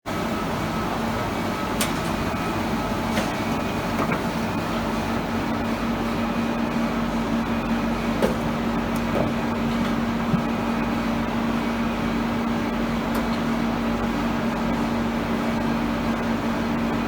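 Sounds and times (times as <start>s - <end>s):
machine hum: 0.1s - 17.0s.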